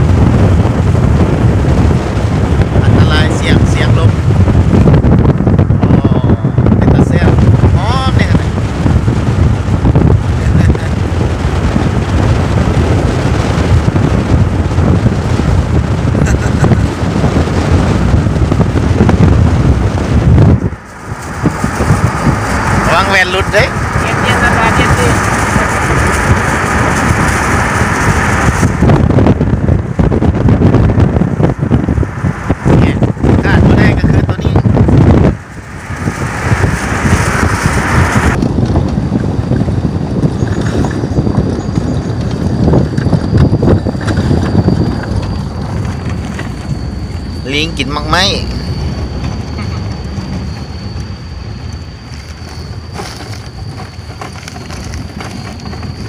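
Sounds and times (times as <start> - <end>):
road noise: 0.0 - 56.0
truck engine and tyres rumbling: 0.0 - 56.0
wind buffeting microphone: 0.0 - 56.0
thin high whine: 0.2 - 56.0.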